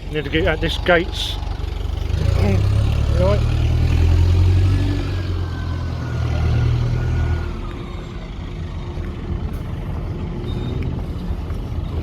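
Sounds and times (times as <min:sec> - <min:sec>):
street noise: 0:00.0 - 0:12.0
vehicle engine running: 0:00.0 - 0:12.0.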